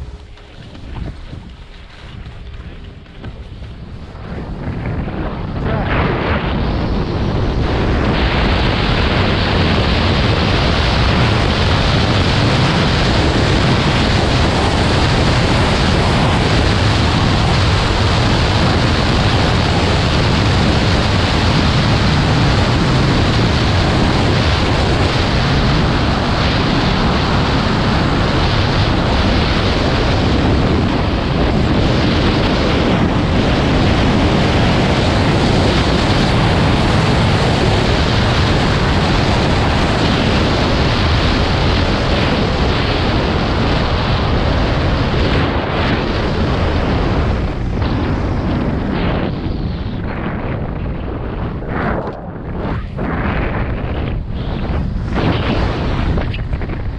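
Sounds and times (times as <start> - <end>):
wind roar over microphone: 0.0 - 56.9.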